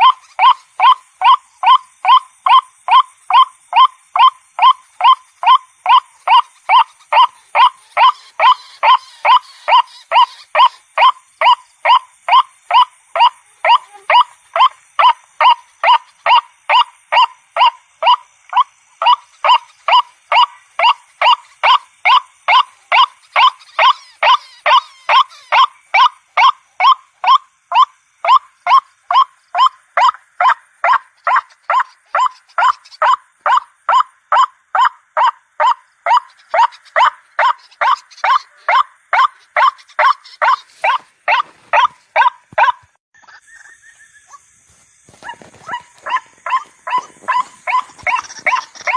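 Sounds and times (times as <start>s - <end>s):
bird calling repeated loud notes: 0.0s - 44.4s, 45.2s - 48.9s.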